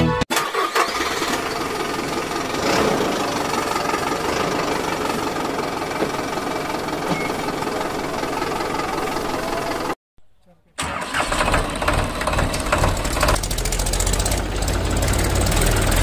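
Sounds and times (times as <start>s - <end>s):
engine idling: 0.4s - 10.0s, 10.8s - 16.0s.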